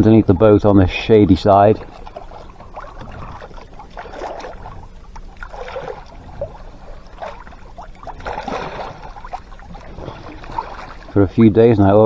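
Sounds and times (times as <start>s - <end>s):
boat engine hum: 0.0s - 12.0s
water splashing along hull: 0.0s - 12.0s.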